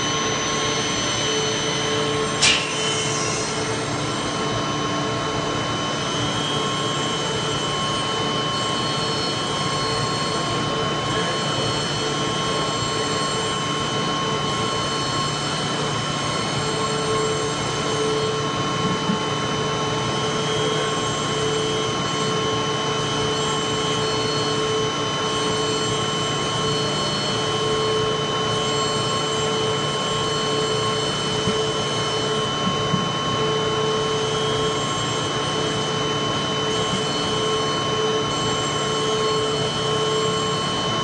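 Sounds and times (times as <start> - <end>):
milling spindle whine: 0.0 - 41.0.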